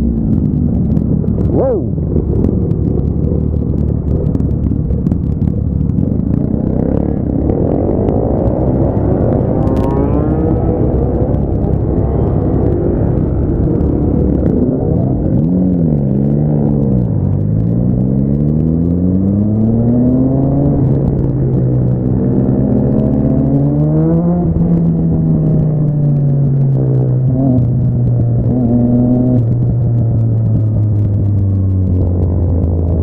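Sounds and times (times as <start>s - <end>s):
motorcycle engine accelerating: 0.0s - 33.0s
wind and road noise: 0.0s - 33.0s.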